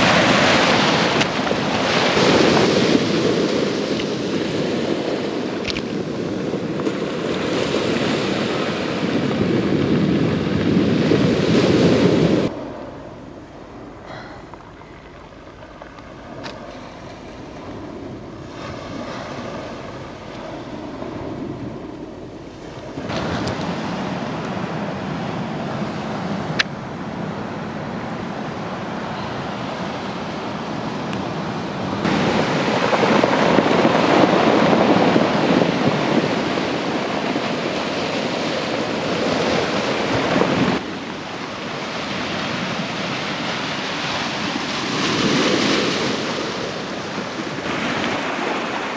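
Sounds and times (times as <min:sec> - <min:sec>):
sea surf on pebble shore: 0:00.0 - 0:48.9
wind buffeting microphone: 0:00.0 - 0:48.9.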